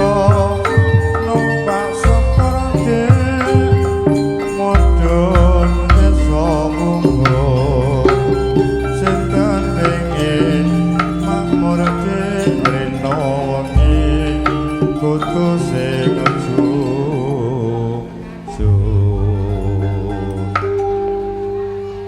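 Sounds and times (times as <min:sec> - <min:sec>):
hand drum strokes: 0:00.0 - 0:22.0
struck metallophone notes: 0:00.0 - 0:22.0
wavering melodic line: 0:00.0 - 0:22.0.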